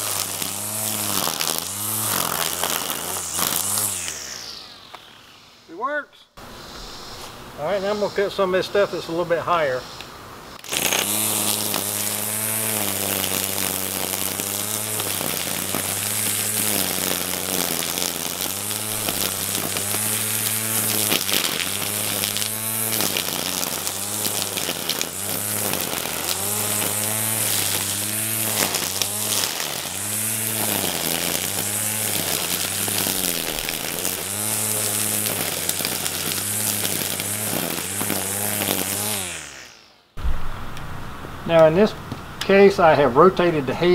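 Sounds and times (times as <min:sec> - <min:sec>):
string trimmer cutting weeds: 0:00.0 - 0:05.8, 0:06.4 - 0:43.9.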